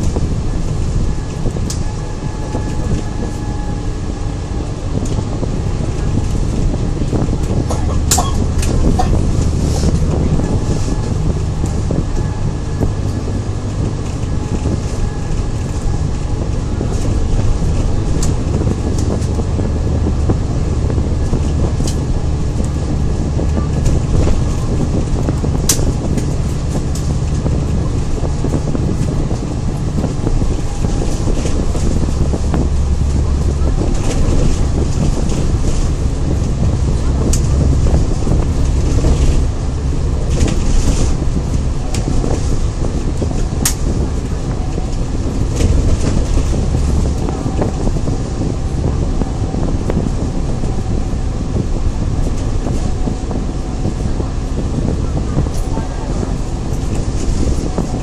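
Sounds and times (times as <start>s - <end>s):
bodywork clicks and rattles: 0.0s - 58.0s
bus engine drone: 0.0s - 58.0s
road and wind noise: 0.0s - 58.0s.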